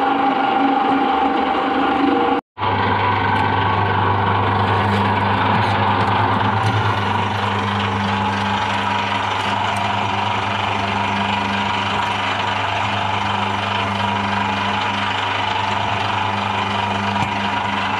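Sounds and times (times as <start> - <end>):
shredder motor humming: 0.0 - 17.9.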